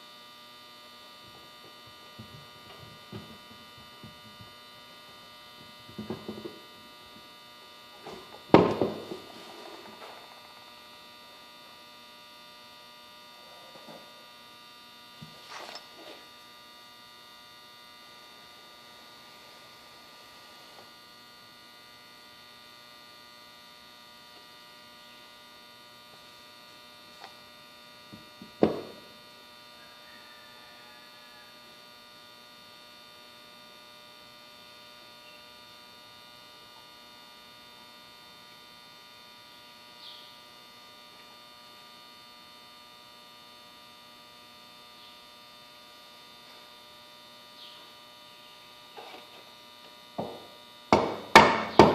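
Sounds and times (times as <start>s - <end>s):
electrical mains hum: 0.0s - 51.9s.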